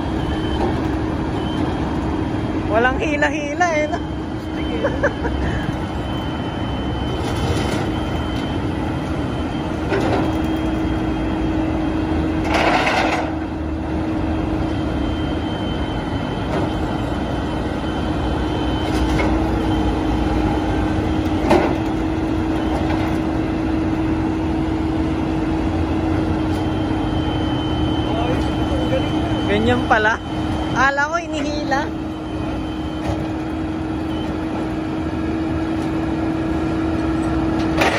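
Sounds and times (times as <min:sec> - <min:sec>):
truck engine running with whine: 0:00.0 - 0:37.9.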